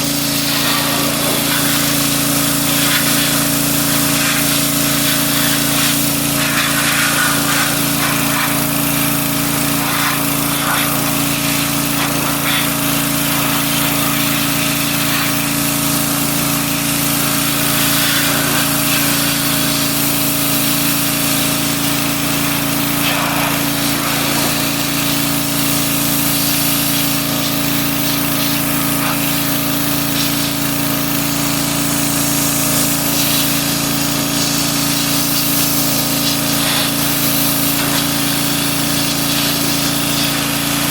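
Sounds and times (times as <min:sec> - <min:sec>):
machine motor humming: 0:00.0 - 0:34.9.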